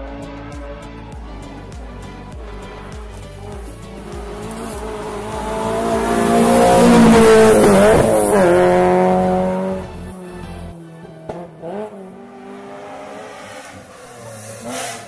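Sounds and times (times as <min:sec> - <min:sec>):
race car passing at full throttle: 0:02.4 - 0:15.0.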